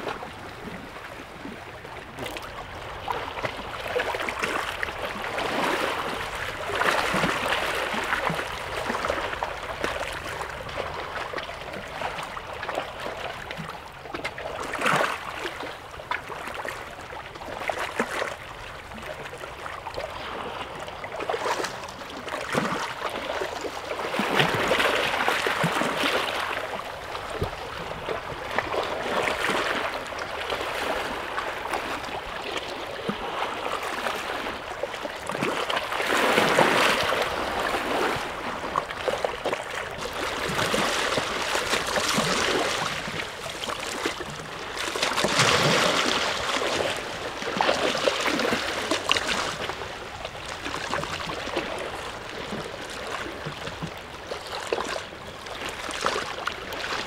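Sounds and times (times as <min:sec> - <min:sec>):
small waves washing at shore: 0:00.0 - 0:57.0
water splashes: 0:00.0 - 0:57.0.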